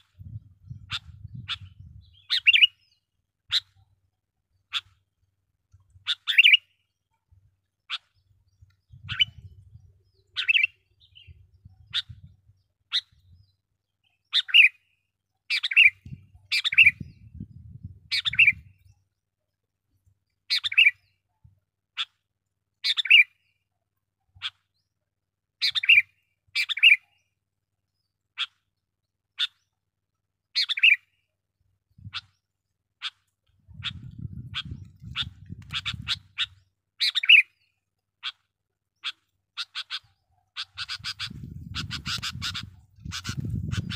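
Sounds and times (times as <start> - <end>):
bird chirping: 0.0 - 5.1, 5.9 - 23.7, 24.3 - 25.0, 25.6 - 31.3, 31.9 - 43.9.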